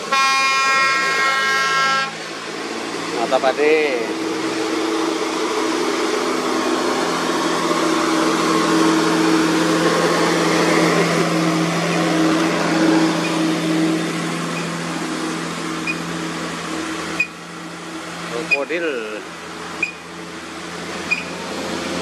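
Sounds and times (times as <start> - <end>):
truck diesel engine running: 0.0 - 22.0
tyre and road noise: 0.0 - 22.0.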